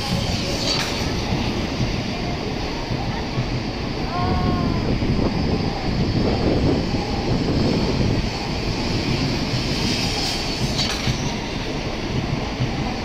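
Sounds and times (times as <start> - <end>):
train running past: 0.0 - 13.0.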